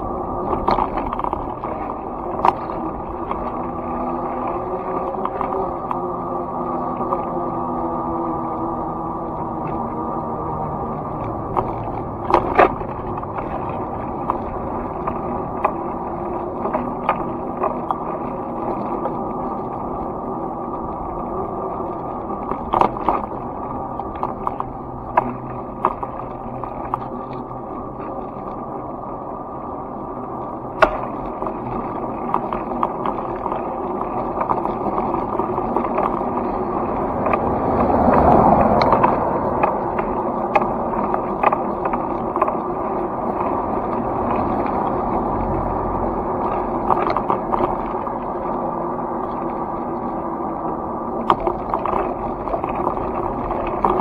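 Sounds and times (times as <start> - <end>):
clicks and knocks over bumps: 0.0 - 54.0
wheels rumbling on pavement: 0.0 - 54.0.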